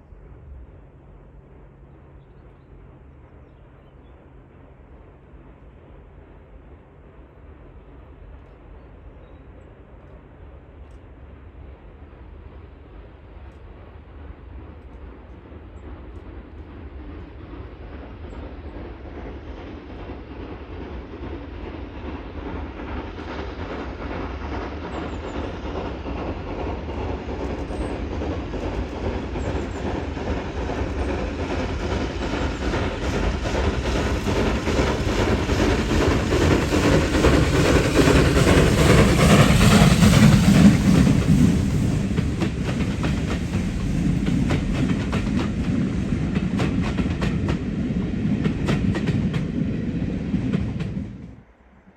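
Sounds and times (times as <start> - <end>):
train running: 0.0 - 51.9.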